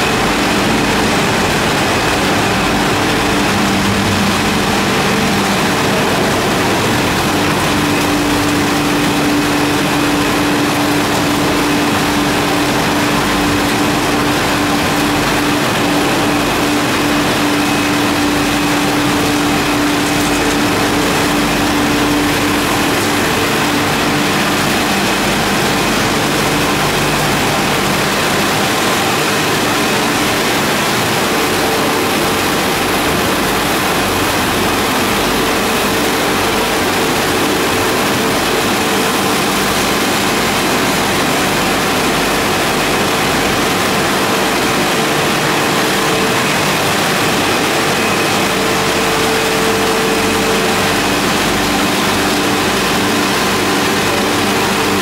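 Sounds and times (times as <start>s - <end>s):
mill machinery running: 0.0s - 55.0s.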